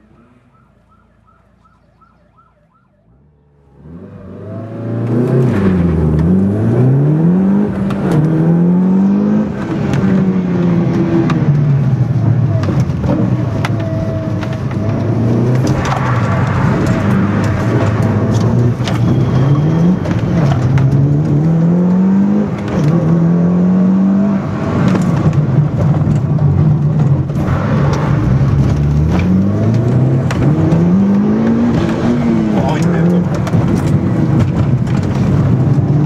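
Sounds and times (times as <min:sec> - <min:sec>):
car engine accelerating hard: 0:03.2 - 0:36.0.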